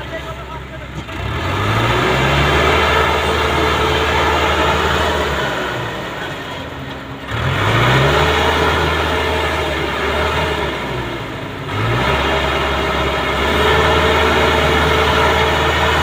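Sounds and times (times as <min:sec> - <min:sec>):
tractor diesel engine revving: 0:00.0 - 0:16.0.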